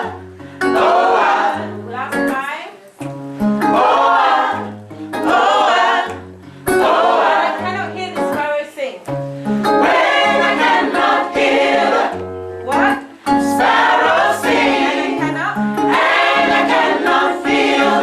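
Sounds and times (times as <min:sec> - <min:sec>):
choir singing in parts: 0:00.0 - 0:01.8, 0:03.6 - 0:08.0, 0:09.6 - 0:18.0
instrumental accompaniment with bass: 0:00.0 - 0:02.3, 0:03.0 - 0:08.5, 0:09.1 - 0:18.0.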